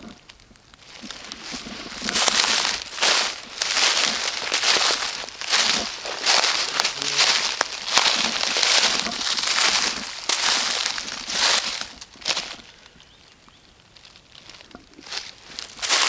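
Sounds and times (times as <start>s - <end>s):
footsteps crunching dry leaves: 0.8s - 13.0s, 13.9s - 16.0s.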